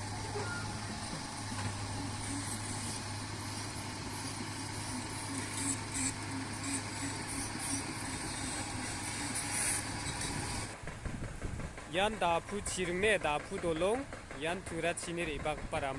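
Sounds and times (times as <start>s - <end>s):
heavy engine running: 0.0s - 15.9s.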